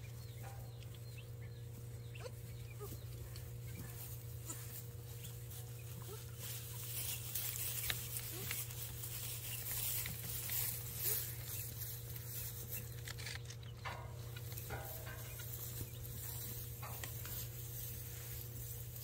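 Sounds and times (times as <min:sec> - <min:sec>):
steady low hum: 0:00.0 - 0:19.0
straw rustling: 0:02.8 - 0:19.0.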